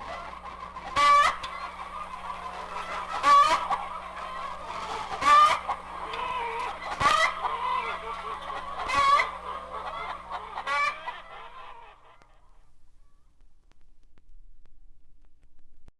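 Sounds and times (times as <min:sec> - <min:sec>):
chickens clucking: 0:00.0 - 0:13.2
chicken squawk: 0:00.0 - 0:13.3.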